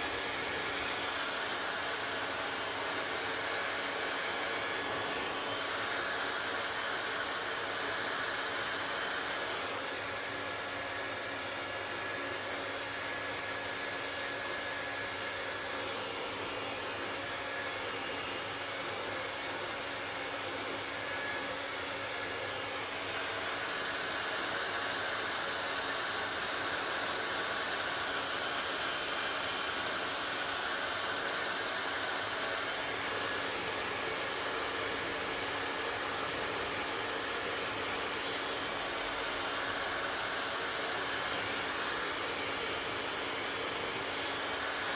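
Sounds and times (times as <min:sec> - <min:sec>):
hair dryer blowing: 0:00.0 - 0:44.9.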